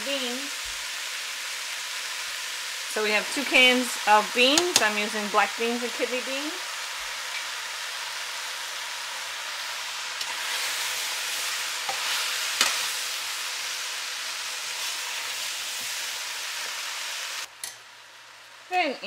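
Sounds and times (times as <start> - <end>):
vegetables sizzling in a pot: 0.0 - 19.0.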